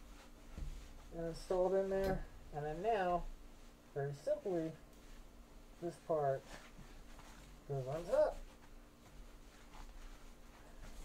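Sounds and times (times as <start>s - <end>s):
low steady hum: 0.0s - 11.0s
soft rustles of insulation: 0.0s - 11.0s.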